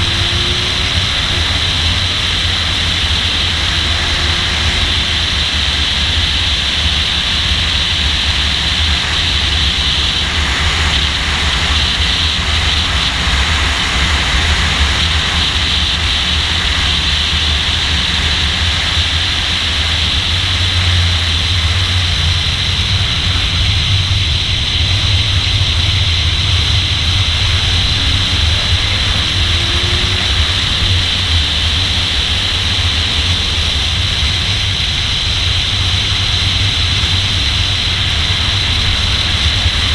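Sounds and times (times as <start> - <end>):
car engine pulling hard: 0.0 - 39.9
wind and road rush: 0.0 - 39.9.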